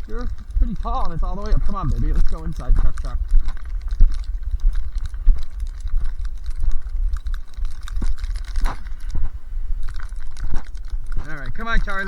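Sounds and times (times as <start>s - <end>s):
footsteps crunching through snow: 0.0s - 12.0s
wind rumble on microphone: 0.0s - 12.0s.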